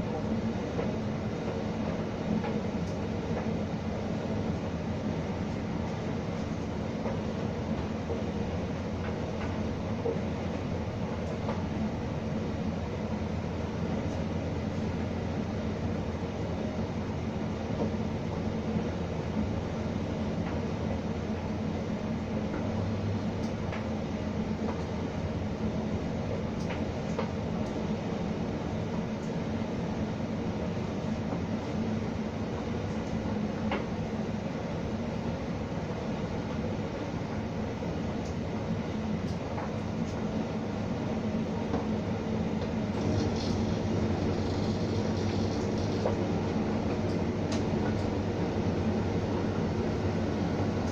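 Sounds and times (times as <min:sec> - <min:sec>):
tumble dryer rumble and hum: 0:00.0 - 0:50.9.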